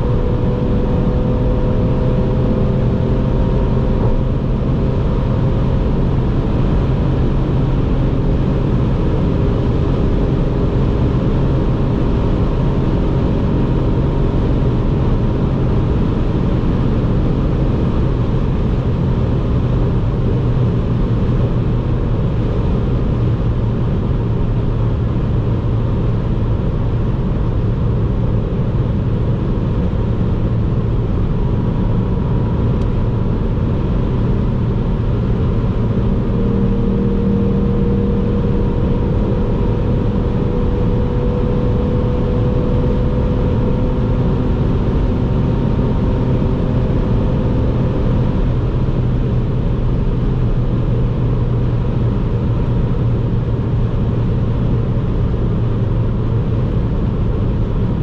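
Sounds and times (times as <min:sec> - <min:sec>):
car engine and tyre roar: 0:00.0 - 0:58.0
faint steady engine tone: 0:00.0 - 0:58.0.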